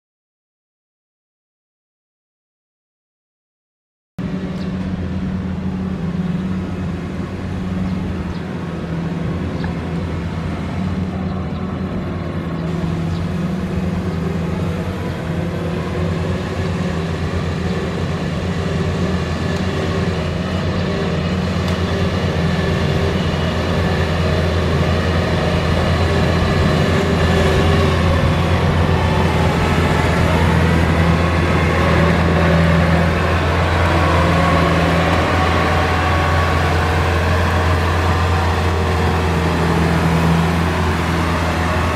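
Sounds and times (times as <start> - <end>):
combine harvester diesel engine: 4.2 - 41.9.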